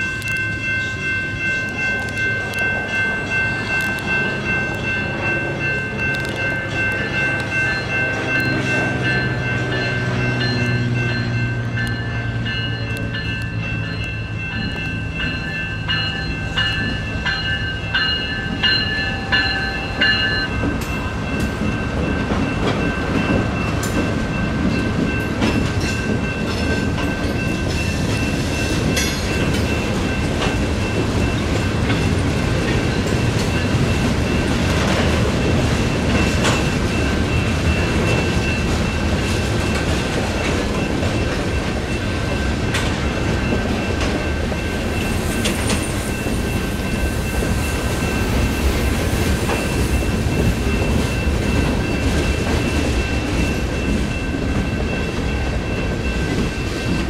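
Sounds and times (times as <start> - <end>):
wheels clacking over rail joints: 0.0 - 55.3
crossing bells ringing: 0.0 - 57.0
freight train cars rumbling: 0.0 - 57.0.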